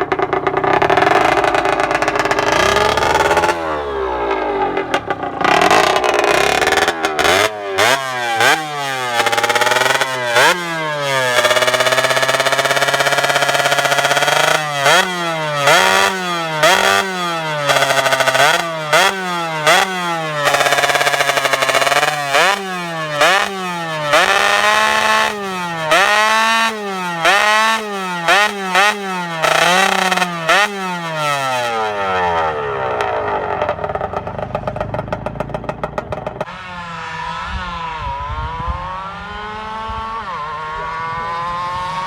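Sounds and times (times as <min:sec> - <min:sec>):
two-stroke engine revving: 0:00.0 - 0:42.0.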